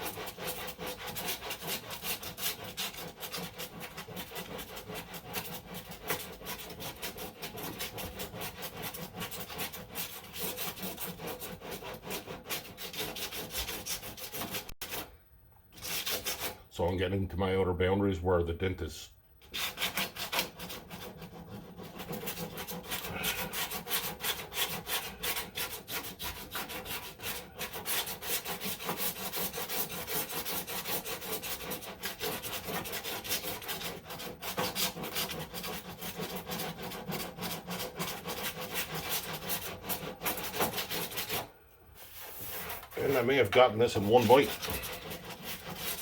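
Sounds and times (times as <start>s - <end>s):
sandpaper scratching back and forth: 0.0s - 15.1s, 15.8s - 16.6s, 19.4s - 46.0s.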